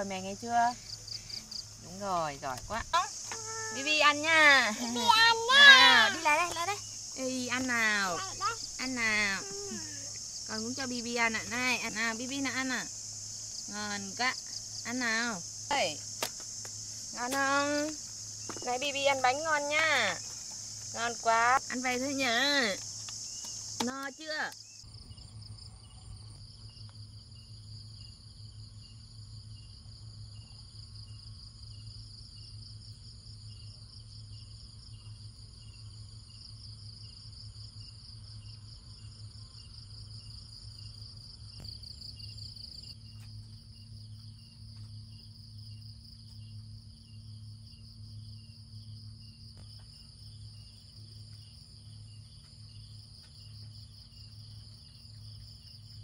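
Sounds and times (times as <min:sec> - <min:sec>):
crickets and insects chirping: 0:00.0 - 0:56.0.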